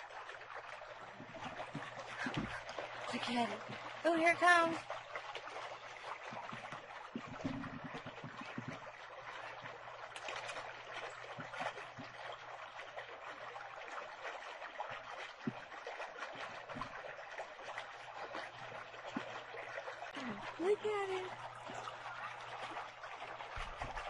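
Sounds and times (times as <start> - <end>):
babbling stream: 0.0 - 24.0
small water splashes: 0.0 - 24.0.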